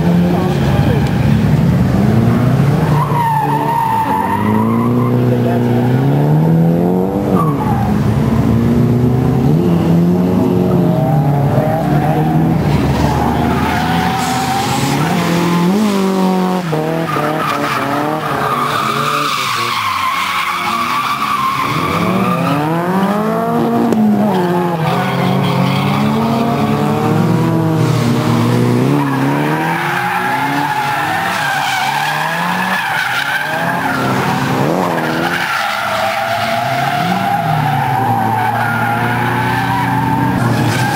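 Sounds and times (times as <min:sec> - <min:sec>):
tyres squealing and skidding: 0:00.0 - 0:08.4, 0:09.1 - 0:40.9
car engines revving: 0:00.0 - 0:40.9.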